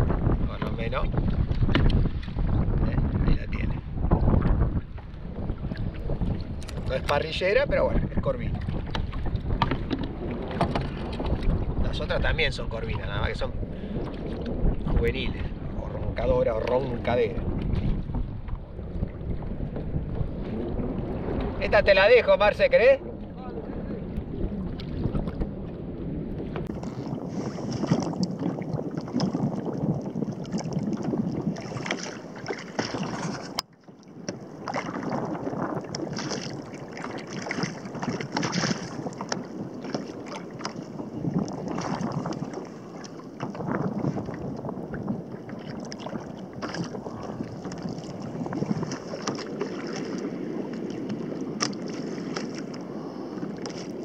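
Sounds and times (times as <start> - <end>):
waves splashing against hull: 0.0 - 54.0
wind buffeting microphone: 0.0 - 54.0.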